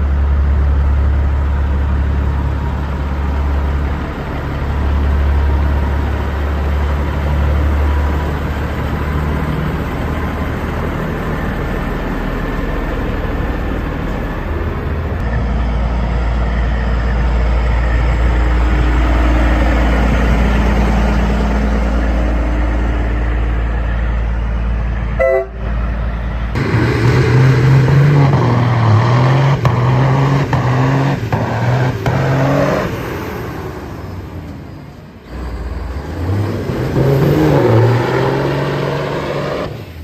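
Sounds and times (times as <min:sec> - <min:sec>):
heavy truck engine rumbling: 0:00.0 - 0:40.0.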